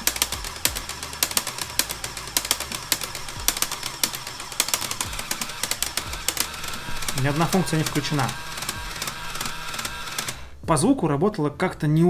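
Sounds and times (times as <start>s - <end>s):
plastic gearbox clicking and rattling: 0.0s - 10.4s.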